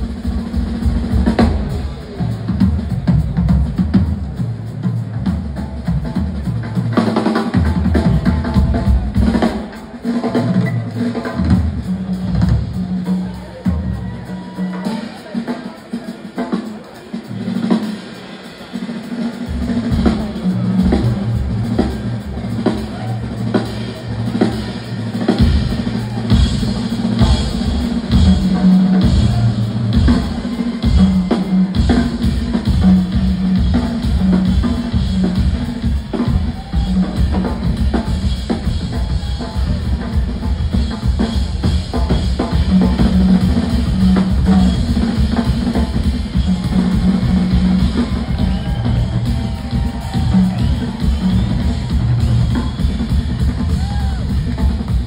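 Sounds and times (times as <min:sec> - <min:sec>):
drum kits playing: 0:00.0 - 0:55.0.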